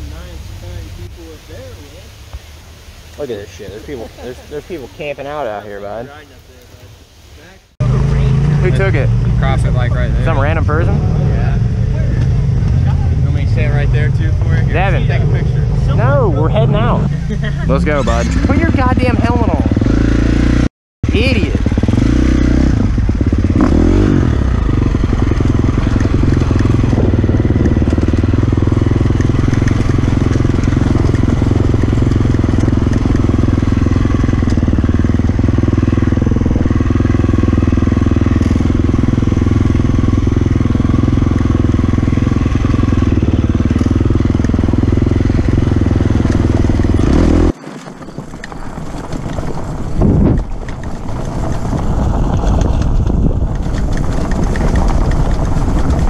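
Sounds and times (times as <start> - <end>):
dirt bike engine running: 7.8 - 56.0.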